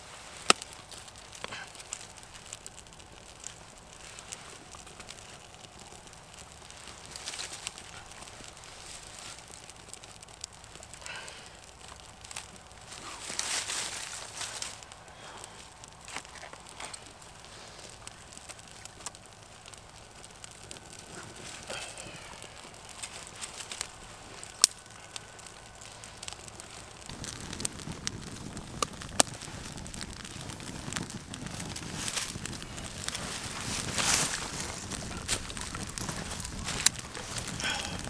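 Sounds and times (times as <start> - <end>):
small fire crackling: 0.0 - 38.0
twigs snapping in fire: 0.0 - 38.0.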